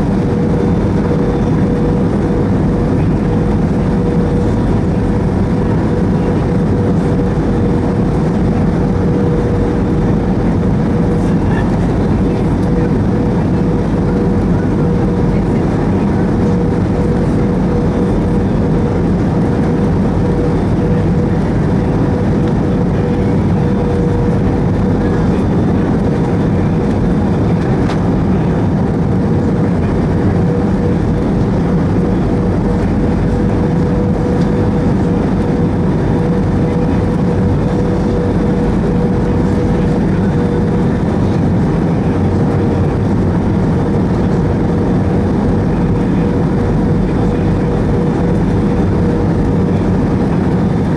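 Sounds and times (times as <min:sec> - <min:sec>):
airplane cabin engine noise: 0:00.0 - 0:50.9
steady mid-pitched hum: 0:00.0 - 0:50.9.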